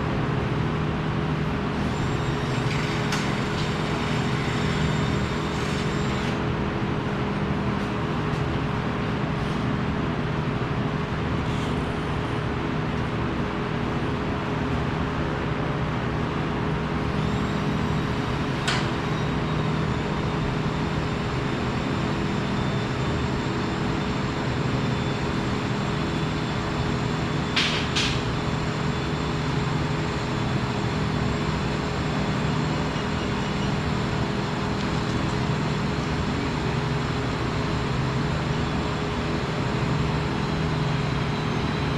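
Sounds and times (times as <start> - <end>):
machinery hum: 0.0 - 41.9.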